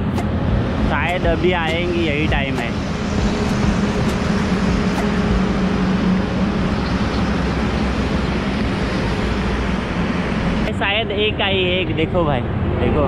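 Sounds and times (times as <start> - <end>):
highway traffic rushing: 0.0 - 13.0.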